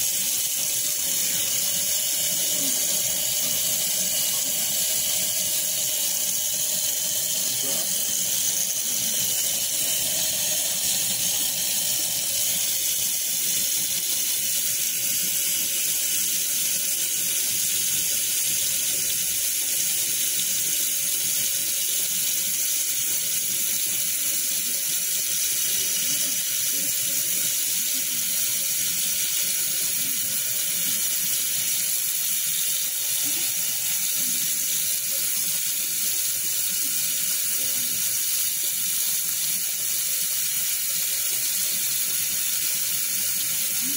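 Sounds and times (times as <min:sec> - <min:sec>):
tap water running into a steel sink: 0:00.0 - 0:43.9.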